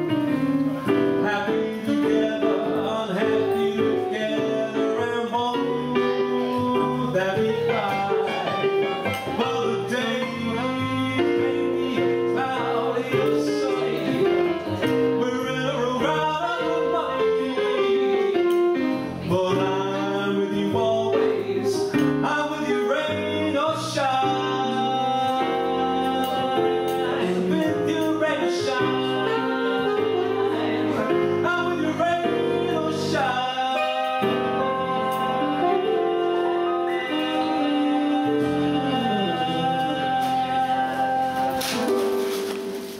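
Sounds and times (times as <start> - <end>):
instrumental accompaniment: 0.0 - 42.9
man singing jazz: 0.0 - 42.9.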